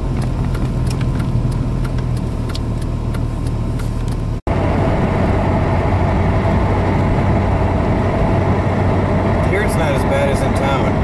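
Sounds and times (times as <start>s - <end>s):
engine and tyre drone: 0.0s - 11.0s.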